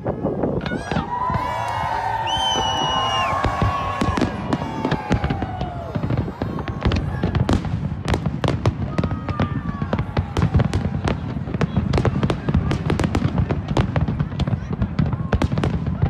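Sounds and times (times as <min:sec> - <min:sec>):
falling whistling fireworks: 0:00.0 - 0:16.0
fireworks bangs and crackles: 0:00.0 - 0:16.0.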